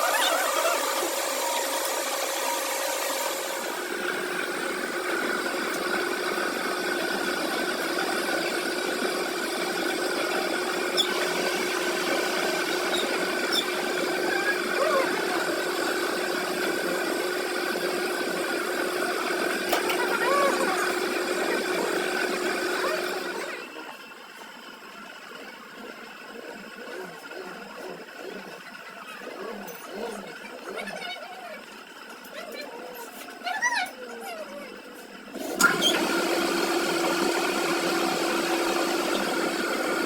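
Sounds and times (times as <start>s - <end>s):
machine humming: 0.0s - 33.0s, 34.7s - 40.0s.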